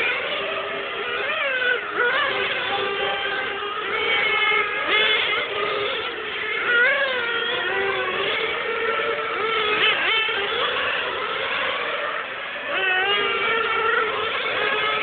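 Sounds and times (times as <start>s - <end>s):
rc car engines buzzing: 0.0s - 15.0s.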